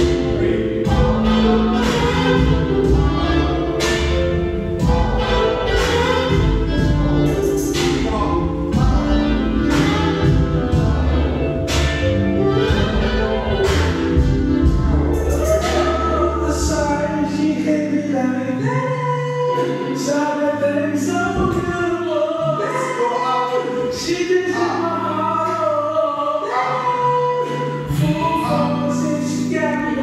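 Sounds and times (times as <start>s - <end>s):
slow song with singing: 0.0s - 30.0s.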